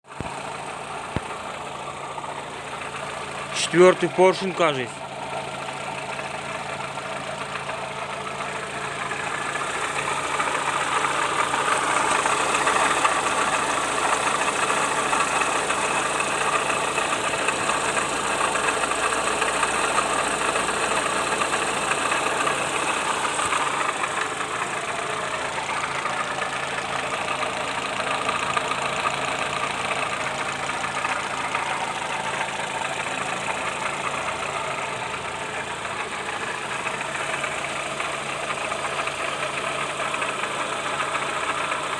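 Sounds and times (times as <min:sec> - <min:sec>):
car engine knocking: 0:00.0 - 0:41.9.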